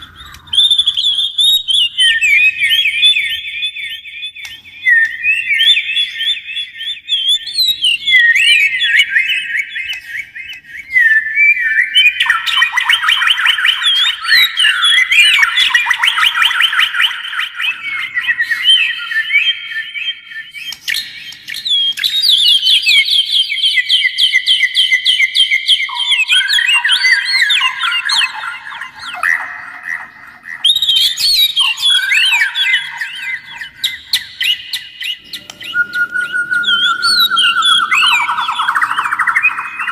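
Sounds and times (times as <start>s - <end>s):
birds whistling and trilling: 0.0s - 39.9s.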